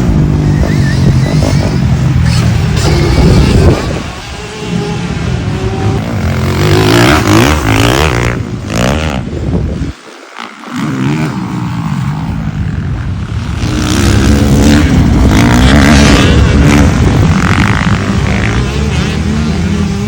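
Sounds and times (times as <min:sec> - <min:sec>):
dirt bike motor revving: 0:00.0 - 0:20.0.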